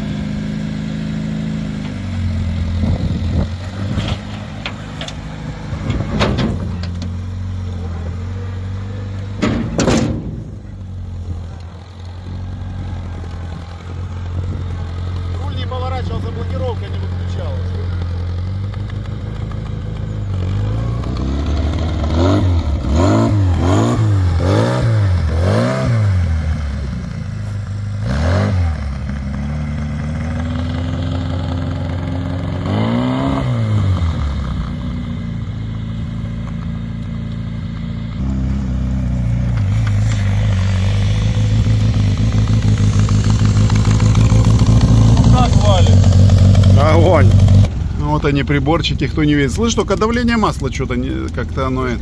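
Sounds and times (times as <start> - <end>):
vehicle engine revving: 0.0 - 52.0.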